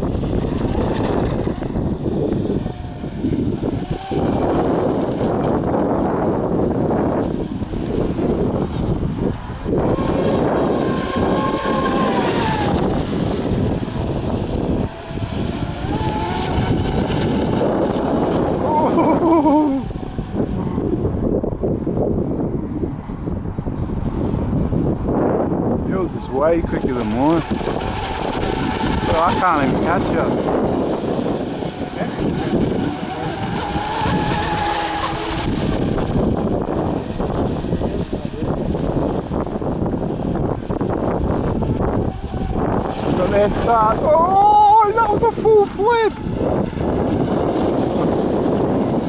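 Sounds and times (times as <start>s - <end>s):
water rushing: 0.0s - 21.3s, 25.8s - 49.0s
electric motors whining: 0.0s - 22.5s, 23.8s - 49.0s
wind rumble on microphone: 0.0s - 49.0s.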